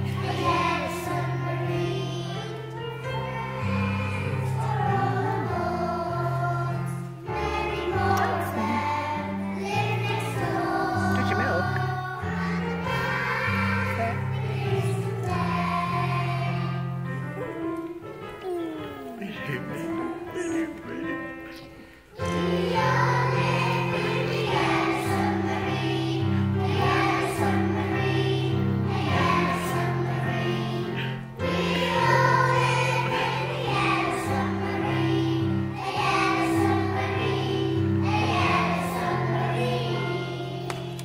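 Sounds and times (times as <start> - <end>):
children singing together: 0.0 - 18.3, 22.1 - 41.0
keyboard accompaniment: 0.0 - 41.0.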